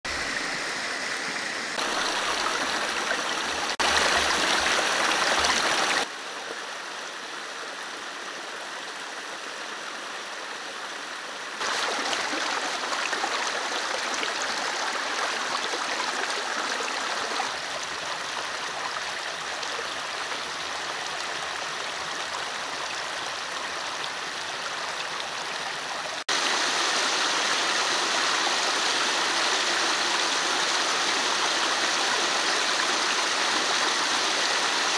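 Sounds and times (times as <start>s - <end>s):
stream flowing over rocks: 0.1s - 34.9s.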